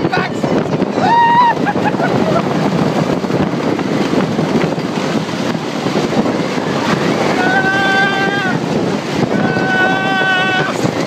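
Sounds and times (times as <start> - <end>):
roller coaster rattling on track: 0.0 - 11.0
wind buffeting microphone: 0.0 - 11.0.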